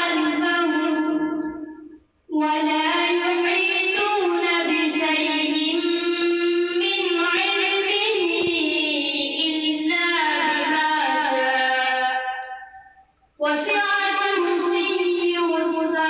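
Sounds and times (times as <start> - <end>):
boy reciting melodically: 0.0 - 16.0.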